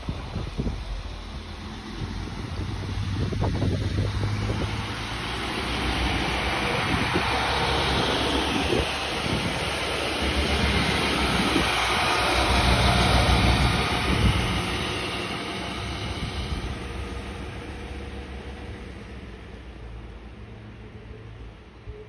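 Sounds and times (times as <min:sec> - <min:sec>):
diesel railcar engine running: 0:00.0 - 0:22.0
train wheels rolling on rails: 0:00.0 - 0:22.0.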